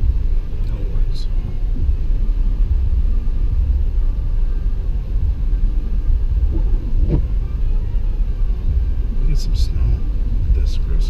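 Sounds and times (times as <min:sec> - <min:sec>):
car engine and tyres droning: 0:00.0 - 0:11.0.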